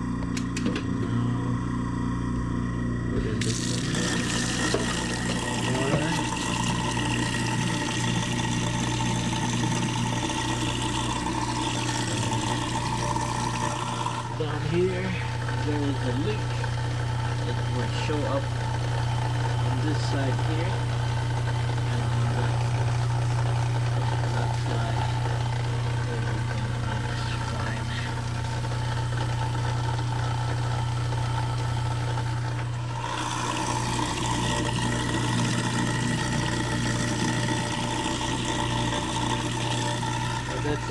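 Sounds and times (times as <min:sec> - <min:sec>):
garbage disposal running: 0:00.0 - 0:40.9.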